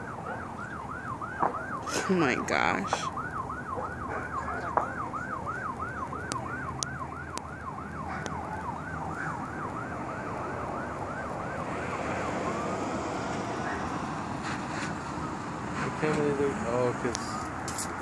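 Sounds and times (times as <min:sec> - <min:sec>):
emergency siren yelping: 0:00.0 - 0:15.7.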